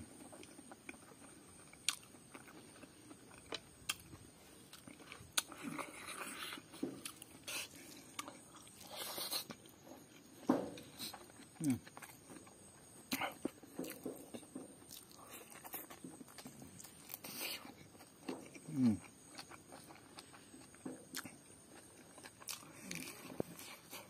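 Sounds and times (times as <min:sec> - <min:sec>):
chewing with mouth clicks: 0:00.1 - 0:24.0.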